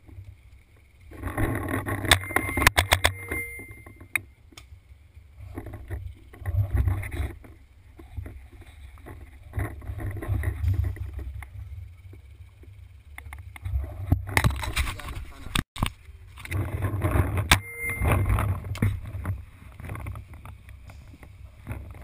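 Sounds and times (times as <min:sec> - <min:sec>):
wind rumble: 0:03.7 - 0:22.0.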